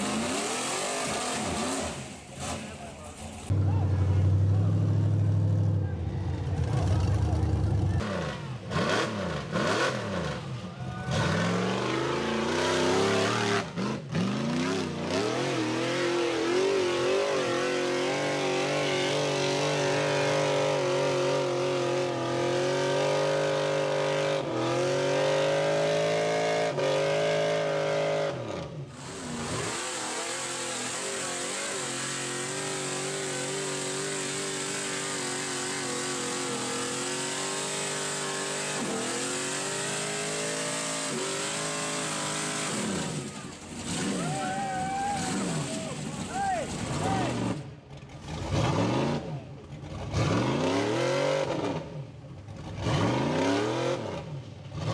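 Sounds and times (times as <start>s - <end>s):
buggy engine revving hard: 0.0s - 5.8s, 6.6s - 54.9s.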